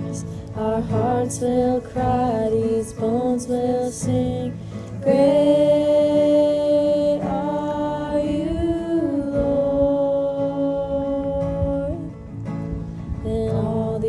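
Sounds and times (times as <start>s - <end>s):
woman singing long notes: 0.0s - 12.3s, 13.2s - 14.0s
acoustic guitar: 0.0s - 14.0s.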